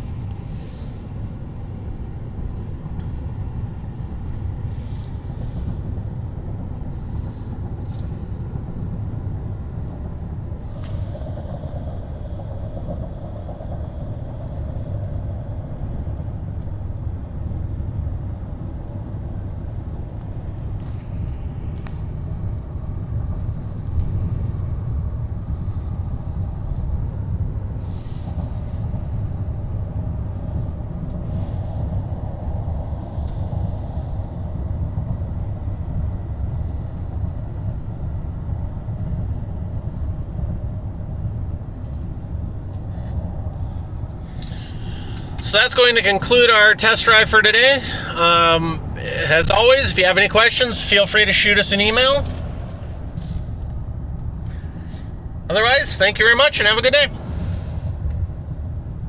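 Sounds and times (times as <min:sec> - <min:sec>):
road and tyre noise inside car: 0:00.0 - 0:50.0.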